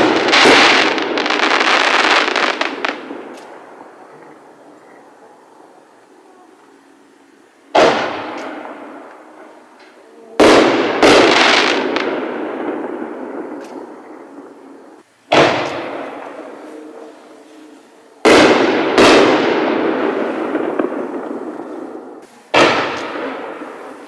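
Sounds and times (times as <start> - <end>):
firework booms with echo: 0.0 - 4.5, 7.6 - 17.2, 18.2 - 24.0.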